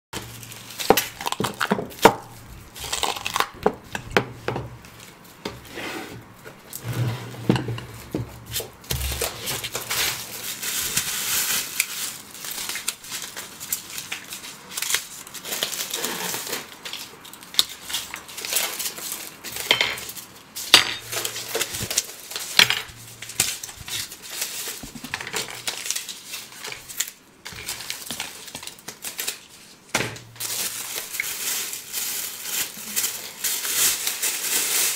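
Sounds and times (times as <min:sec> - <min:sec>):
plastic wrappers crinkling: 0:00.2 - 0:05.6, 0:07.8 - 0:34.9.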